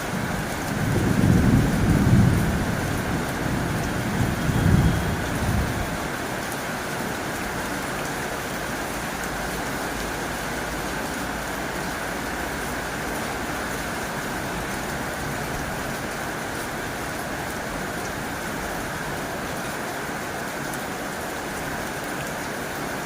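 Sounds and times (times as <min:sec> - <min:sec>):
heavy rain on a tin roof: 0:00.0 - 0:23.0.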